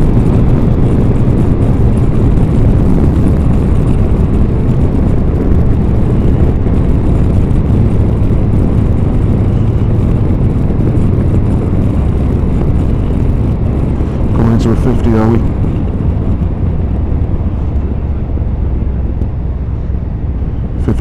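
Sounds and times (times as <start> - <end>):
motorcycle engine drone: 0.0 - 21.0
wind and road noise: 0.0 - 21.0.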